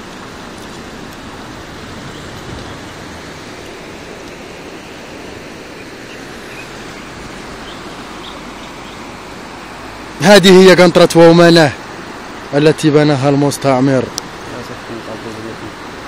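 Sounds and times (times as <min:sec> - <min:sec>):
river rushing in flood: 0:00.0 - 0:16.0.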